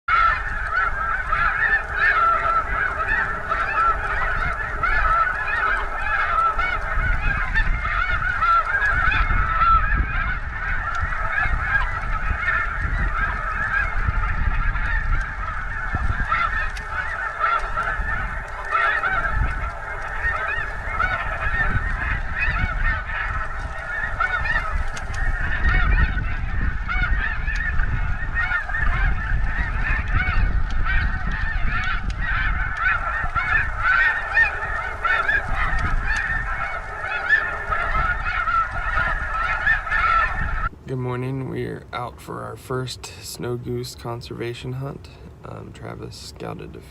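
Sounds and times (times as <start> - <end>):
snow geese calling: 0.1 - 46.9.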